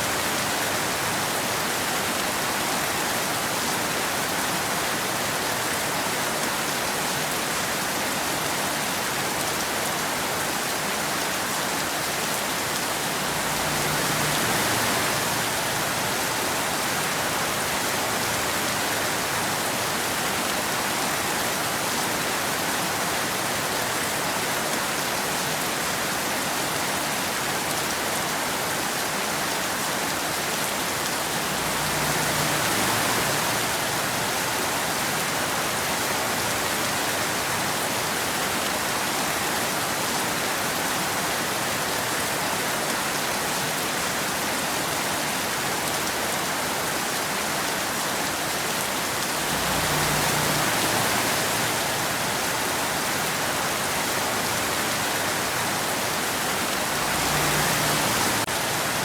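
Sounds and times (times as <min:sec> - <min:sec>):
steady rain on road and trees: 0:00.0 - 0:59.0.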